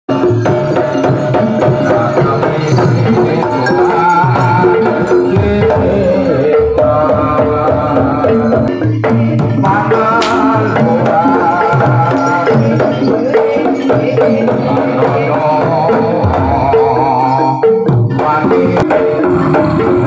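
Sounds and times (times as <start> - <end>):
gamelan melody: 0.1 - 20.0
hand drumming: 0.1 - 20.0.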